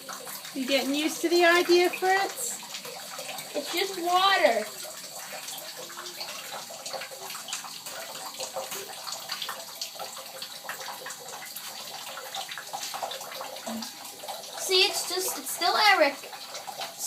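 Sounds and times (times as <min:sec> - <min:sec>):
water splashing in bathtub: 0:00.0 - 0:17.0.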